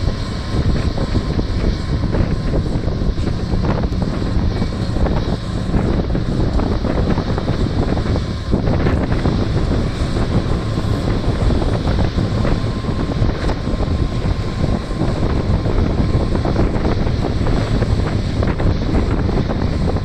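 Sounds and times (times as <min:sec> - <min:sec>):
heavy diesel machinery running: 0:00.0 - 0:20.0
wind buffeting microphone: 0:00.0 - 0:20.0.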